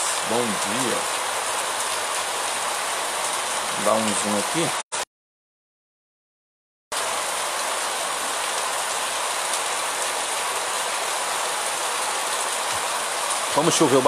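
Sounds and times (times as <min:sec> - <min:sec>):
rain falling: 0:00.0 - 0:04.8, 0:06.9 - 0:14.0
rainwater rushing over street: 0:00.0 - 0:04.8, 0:06.9 - 0:14.0.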